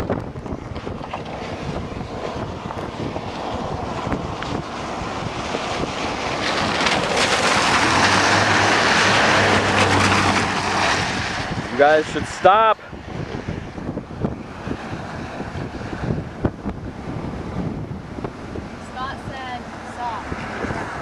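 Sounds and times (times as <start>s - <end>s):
rushing wind: 0.0s - 21.0s
vehicle noise: 0.0s - 21.0s.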